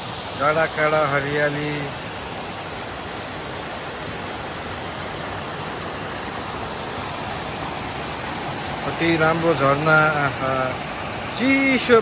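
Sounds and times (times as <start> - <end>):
waterfall splashing: 0.0 - 12.0.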